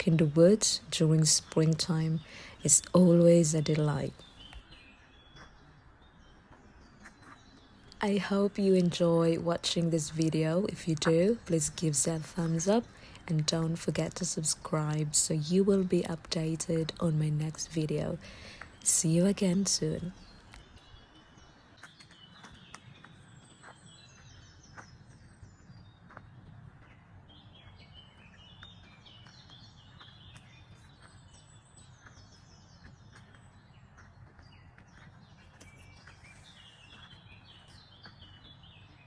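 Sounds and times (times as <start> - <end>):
outdoor background noise: 0.0 - 39.0
songbird singing: 0.0 - 39.0.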